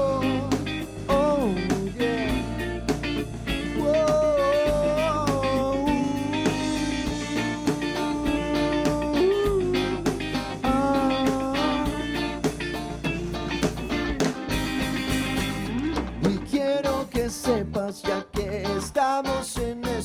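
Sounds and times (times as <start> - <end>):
lead guitar bending notes: 0.0 - 19.0
live rock band playing: 0.0 - 20.0.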